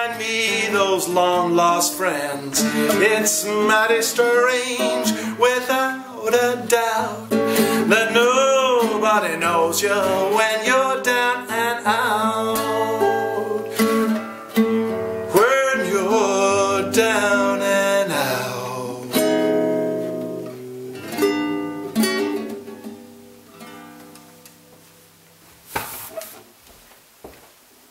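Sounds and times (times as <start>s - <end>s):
classical guitar fingerpicking: 0.0s - 25.3s.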